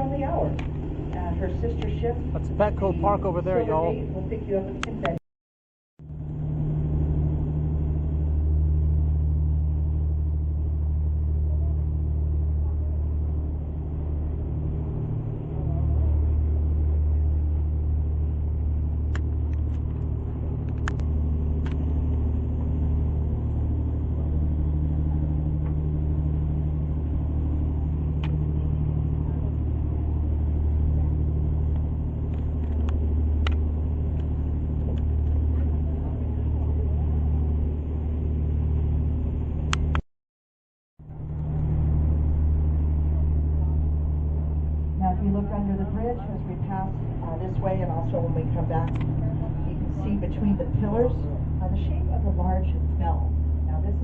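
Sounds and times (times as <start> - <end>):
boat engine droning: 0.0 - 5.2, 6.0 - 40.0, 41.0 - 54.0.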